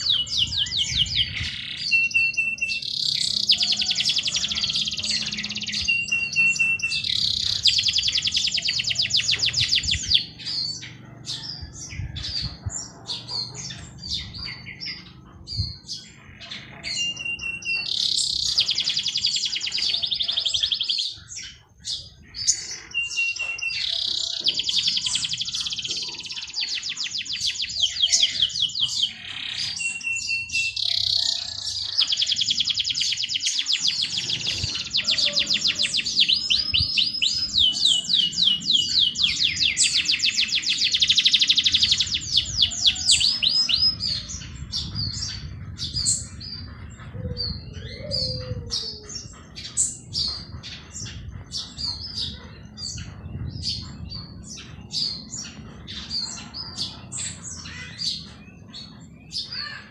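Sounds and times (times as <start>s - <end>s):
songbird singing whistles and trills: 0.0s - 11.0s, 11.6s - 57.4s
bird chirps: 0.0s - 59.9s.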